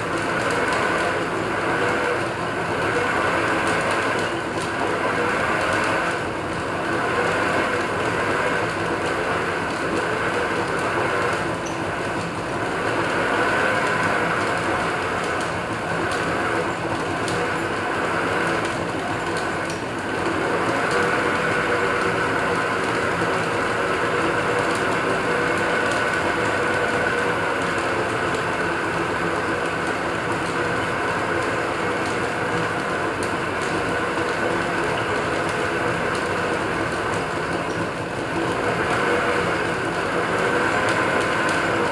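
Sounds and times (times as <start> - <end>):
metal lathe drive whining: 0.1 - 41.9.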